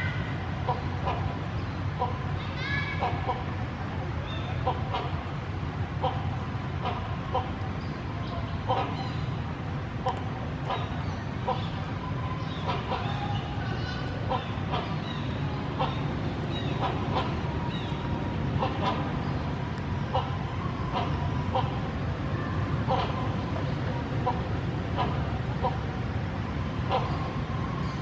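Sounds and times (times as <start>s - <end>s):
steady low background noise: 0.0s - 28.0s.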